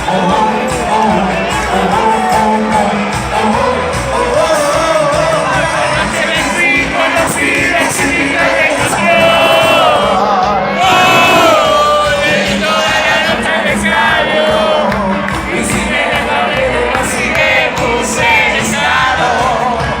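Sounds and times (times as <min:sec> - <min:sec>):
lead vocal singing: 0:00.0 - 0:20.0
live band playing: 0:00.0 - 0:20.0.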